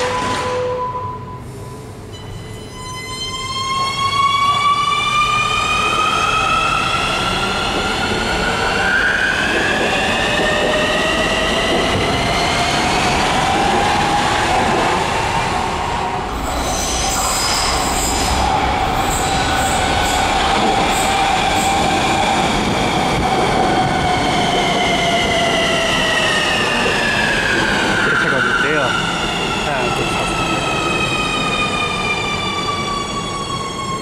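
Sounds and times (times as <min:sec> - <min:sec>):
approaching train whine: 0:00.0 - 0:34.0.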